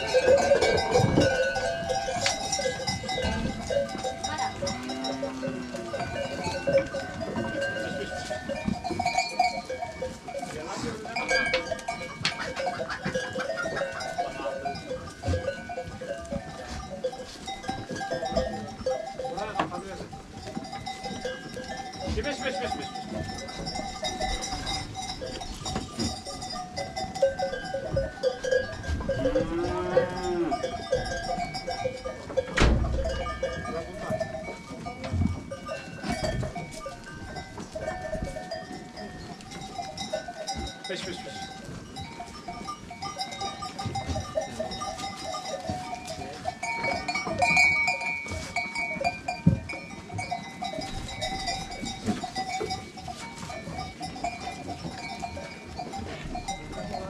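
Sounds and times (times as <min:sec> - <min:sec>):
drawn-out animal call: 0:00.0 - 0:57.0
goat bells clinking: 0:00.0 - 0:57.0.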